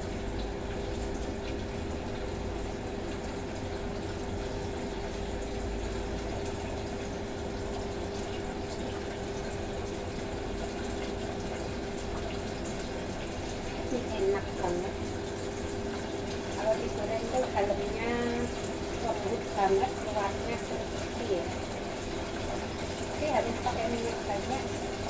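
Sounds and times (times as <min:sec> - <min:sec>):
range hood fan hum: 0:00.0 - 0:25.0.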